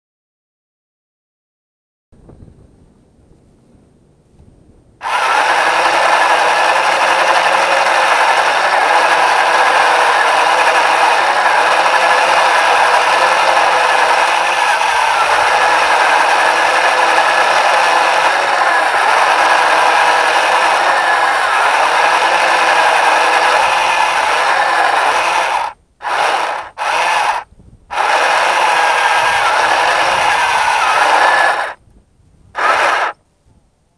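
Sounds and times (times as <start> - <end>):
rover motors whirring and grinding: 5.0 - 31.8, 32.6 - 33.2.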